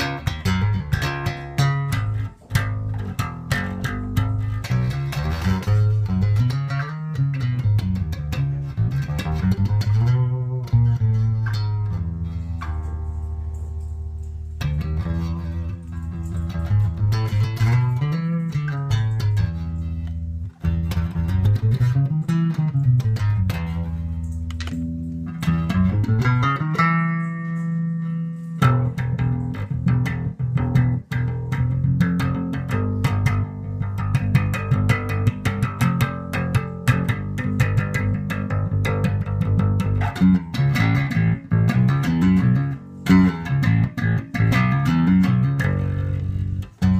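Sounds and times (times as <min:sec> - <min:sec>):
electric bass playing: 0:00.0 - 0:46.9.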